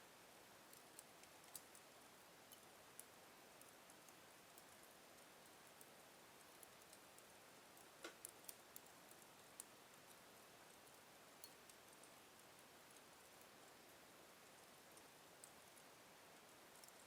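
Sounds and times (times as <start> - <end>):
wood fire crackling: 0.4 - 17.0.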